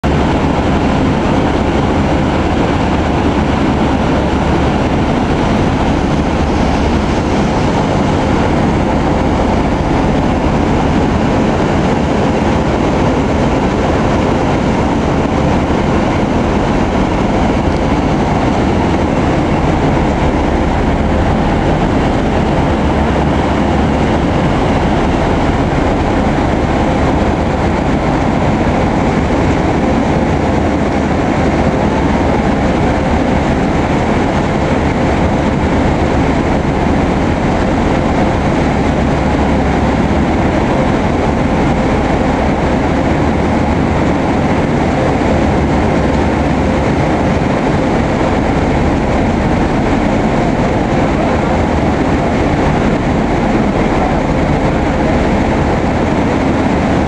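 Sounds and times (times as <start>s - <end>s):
churning wake rushing: 0.0s - 57.0s
ferry engines rumbling: 0.0s - 57.0s.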